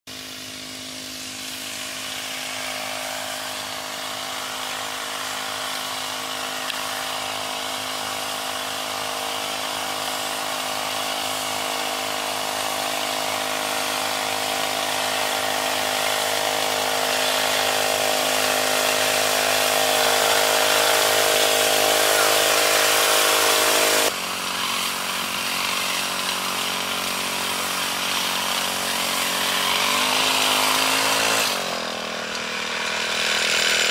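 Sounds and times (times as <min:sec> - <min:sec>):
spray hiss: 0:00.1 - 0:32.4
motorized sprayer running: 0:00.1 - 0:33.9.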